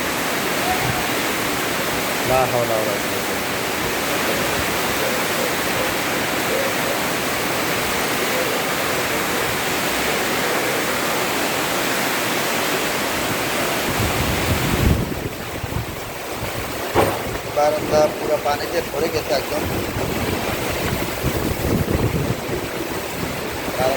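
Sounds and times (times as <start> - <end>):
wind gusts buffeting microphone: 0.0 - 11.7, 13.0 - 23.9
heavy rain pouring: 0.0 - 23.9.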